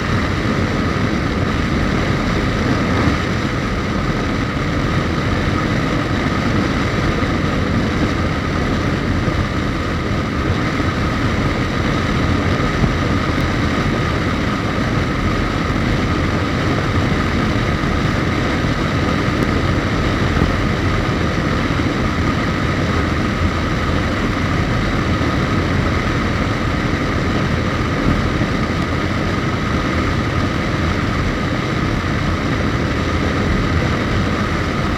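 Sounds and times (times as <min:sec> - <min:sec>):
motorcycle engine running: 0:00.0 - 0:34.9
road and wind noise: 0:00.0 - 0:34.9.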